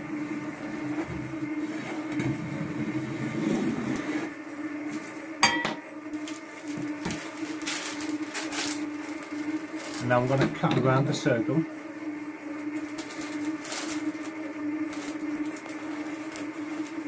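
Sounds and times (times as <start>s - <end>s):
stand mixer motor running: 0.0s - 17.0s.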